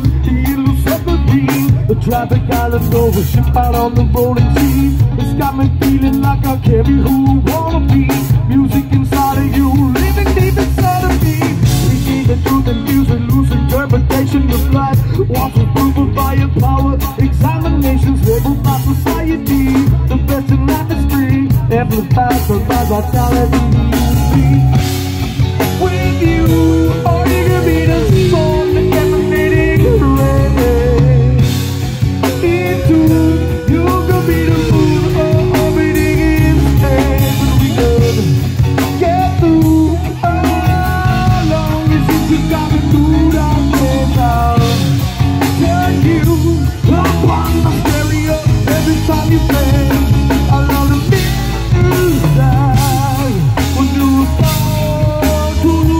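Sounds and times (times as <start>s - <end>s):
drum kit: 0.0s - 55.9s
electric bass: 0.0s - 55.9s
electric guitar: 0.0s - 55.9s
person singing: 0.0s - 55.9s.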